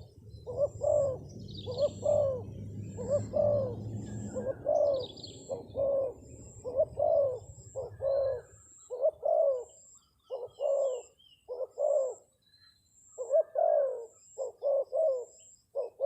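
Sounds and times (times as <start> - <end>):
dove cooing: 0.0 - 12.3, 13.2 - 16.0
small bird chirping: 0.0 - 16.0.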